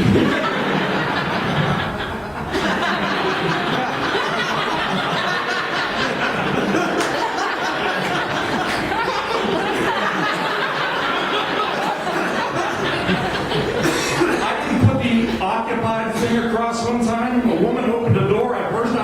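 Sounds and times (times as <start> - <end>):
audience laughing: 0.0 - 15.4.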